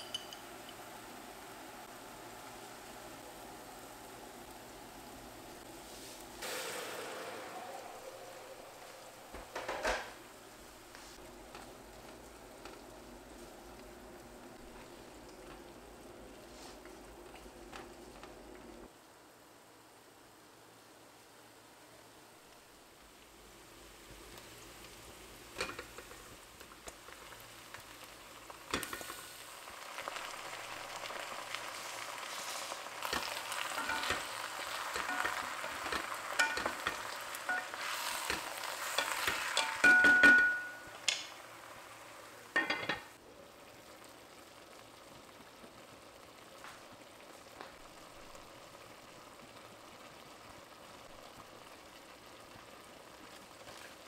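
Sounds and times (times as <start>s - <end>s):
food sizzling in a pot: 0.0s - 20.0s, 20.7s - 54.0s.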